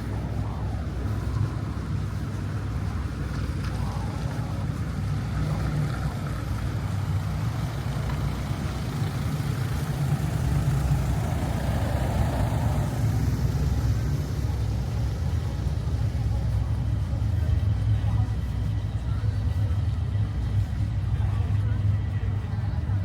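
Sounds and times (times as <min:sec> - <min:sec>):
low rumble of street noise: 0:00.0 - 0:23.0.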